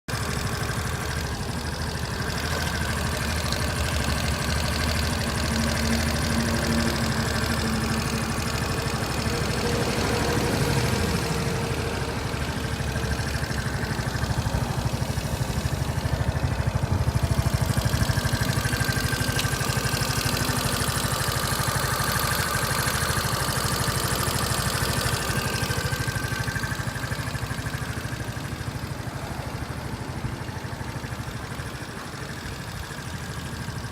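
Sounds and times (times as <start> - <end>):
loud mechanical engine noise: 0.1 - 33.9
scooter engine running: 0.1 - 33.9.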